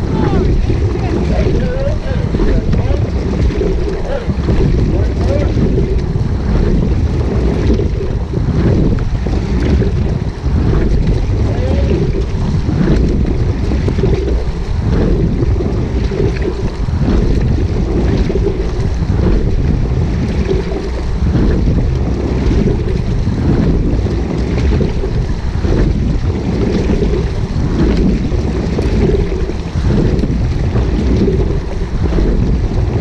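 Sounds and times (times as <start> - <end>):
oar splashes: 0.0 - 33.0
water rushing along hull: 0.0 - 33.0
wind buffeting microphone: 0.0 - 33.0.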